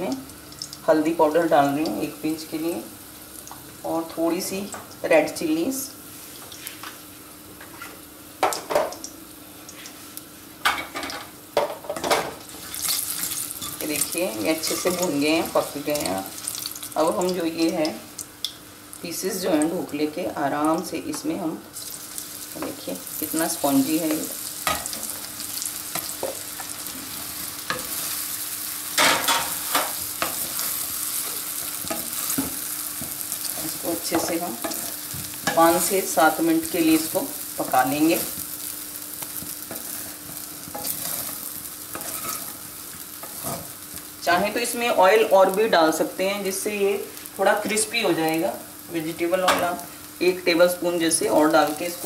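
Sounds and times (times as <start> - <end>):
hot oil sizzling: 0.0 - 52.0.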